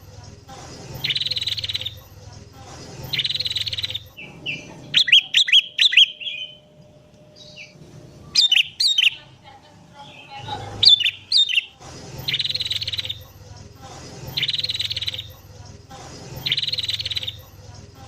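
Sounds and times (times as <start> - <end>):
buzzy rapid bird trill: 0.8 - 15.6, 16.2 - 17.8
bird singing: 0.9 - 13.6, 14.2 - 15.6, 16.3 - 17.8.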